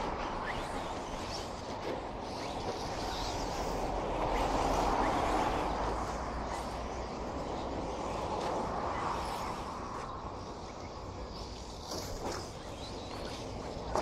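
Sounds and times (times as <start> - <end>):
steady rushing background: 0.0 - 14.0.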